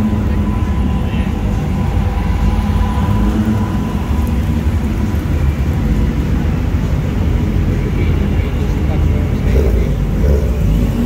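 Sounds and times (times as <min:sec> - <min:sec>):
car engines rumbling at low revs: 0:00.0 - 0:11.0.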